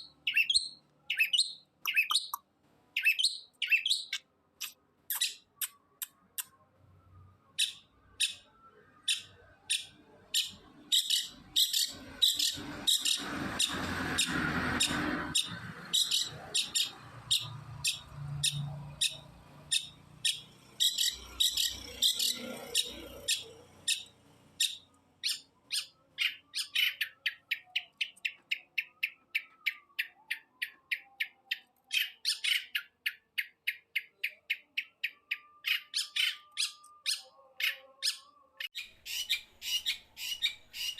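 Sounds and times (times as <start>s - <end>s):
bird singing sharp high notes: 0.0s - 2.4s, 3.0s - 6.5s, 7.2s - 40.9s.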